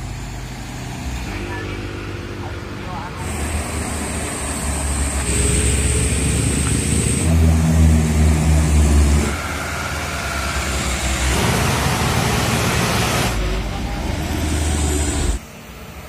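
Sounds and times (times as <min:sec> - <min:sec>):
diesel truck engines pulling uphill: 0:00.0 - 0:16.0.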